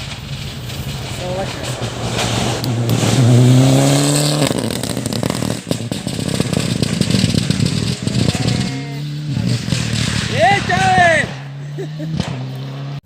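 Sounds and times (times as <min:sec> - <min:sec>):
sharp pops and crackle: 0:00.0 - 0:10.8
rally car engine revving: 0:00.8 - 0:13.0.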